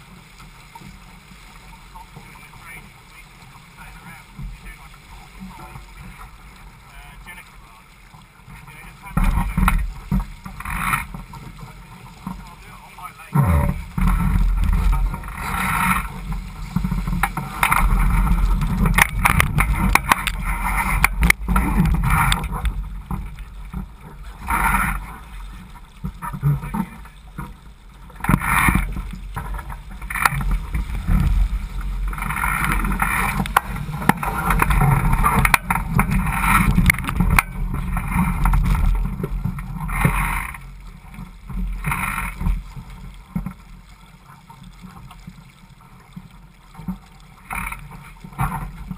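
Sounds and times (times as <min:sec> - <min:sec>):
water splashing along boat hull: 0:00.0 - 0:48.9
steady low rumble: 0:02.0 - 0:43.3.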